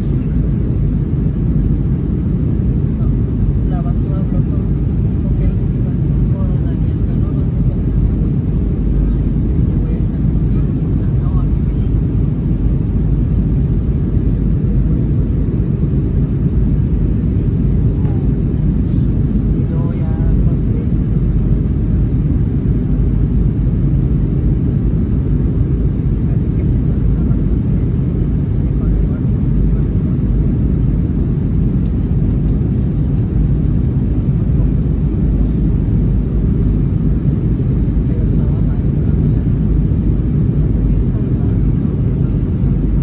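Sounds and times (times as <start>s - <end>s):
aircraft cabin engine rumble: 0.0s - 43.0s.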